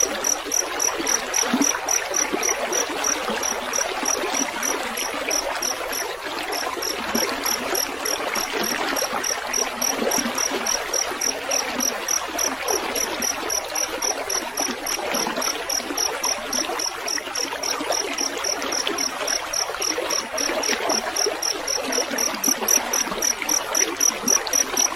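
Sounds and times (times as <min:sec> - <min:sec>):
cricket chirping: 0:00.0 - 0:24.9
trickle of running water: 0:00.0 - 0:24.9.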